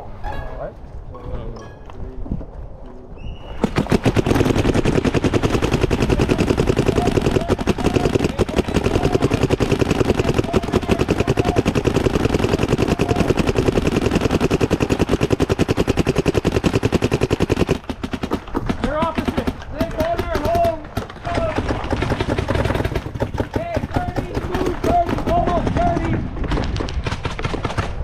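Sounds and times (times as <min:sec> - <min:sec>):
paintball marker rapid firing: 0:03.6 - 0:28.0.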